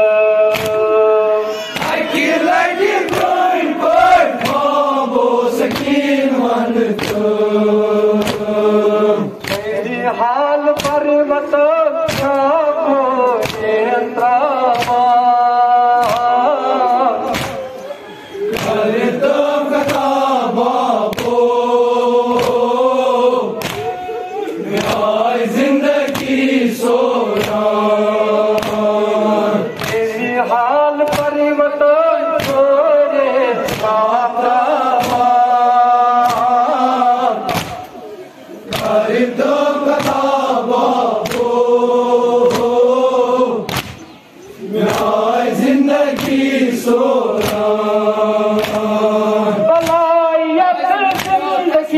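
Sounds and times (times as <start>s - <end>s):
men chanting in unison: 0.0s - 51.9s
rhythmic chest-beating slaps: 0.0s - 51.9s.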